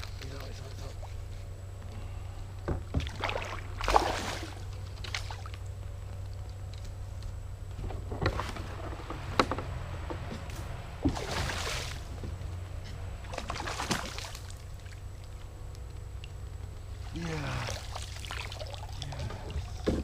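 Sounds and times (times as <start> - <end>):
steady low rumble: 0.0 - 19.9.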